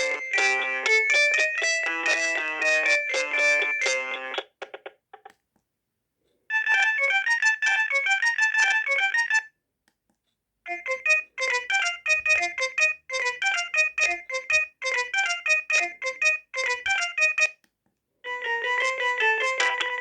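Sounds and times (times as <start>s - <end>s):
electronic keyboard-like melody: 0.0s - 4.4s, 6.5s - 9.5s, 10.7s - 17.6s, 18.2s - 20.0s
mobile phone ringtones: 0.0s - 4.4s, 6.5s - 9.5s, 10.7s - 17.6s, 18.3s - 20.0s.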